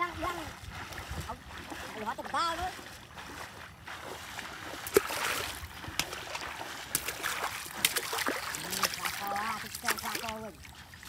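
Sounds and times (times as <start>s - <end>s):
person wading through water: 0.0s - 11.0s
sharp water splashes: 0.0s - 11.0s
steady wash of water: 0.0s - 11.0s.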